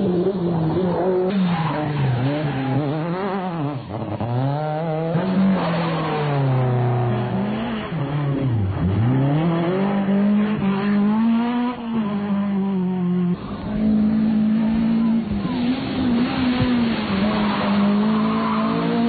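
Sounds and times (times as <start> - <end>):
rally car engines revving: 0.0 - 19.0.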